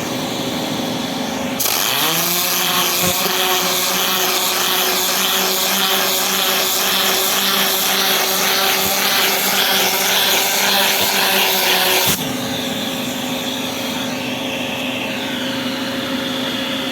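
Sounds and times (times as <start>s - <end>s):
suction motor running with hiss: 1.6s - 16.8s.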